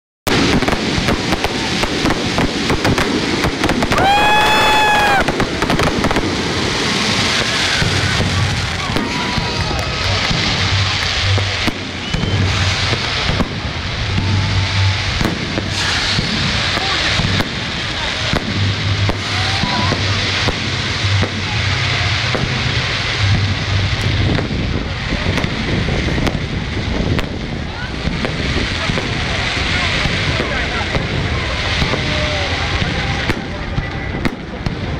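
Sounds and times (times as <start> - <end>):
dense rumble: 0.3 - 34.9
fireworks bangs: 0.3 - 34.9
fireworks crackling and popping: 0.3 - 34.9.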